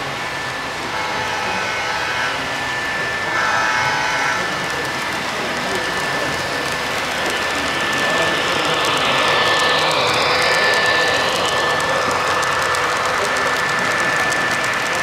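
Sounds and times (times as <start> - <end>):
model train wheels whirring: 0.0 - 15.0
thin steady whine: 0.0 - 15.0.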